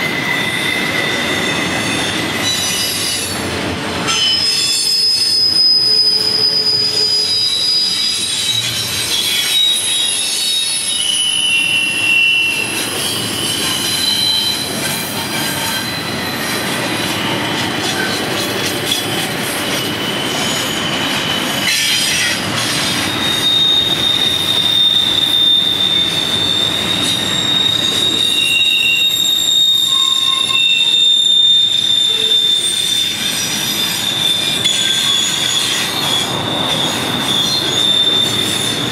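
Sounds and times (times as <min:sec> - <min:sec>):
rumble of rolling train cars: 0:00.0 - 0:38.9
train wheels squealing on rail: 0:00.0 - 0:38.9.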